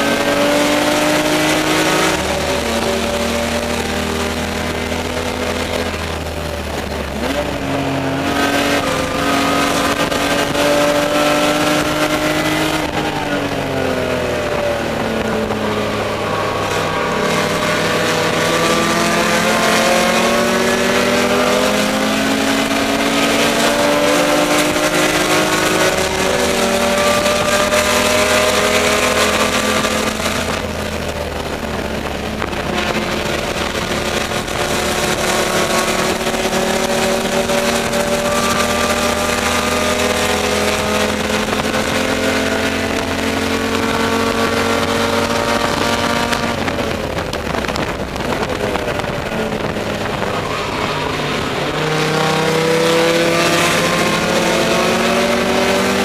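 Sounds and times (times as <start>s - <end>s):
race car engine revving: 0.0s - 56.0s
wind and road noise: 0.0s - 56.0s.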